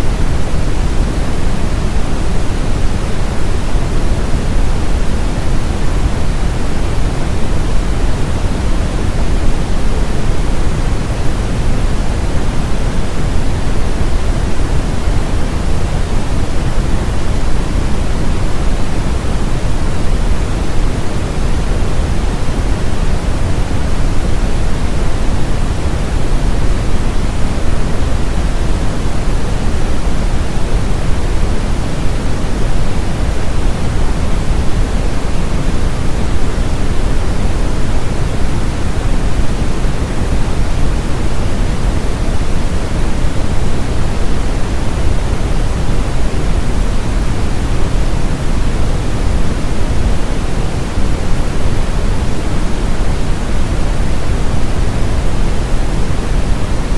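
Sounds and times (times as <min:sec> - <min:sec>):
brown noise rush: 0:00.0 - 0:56.9.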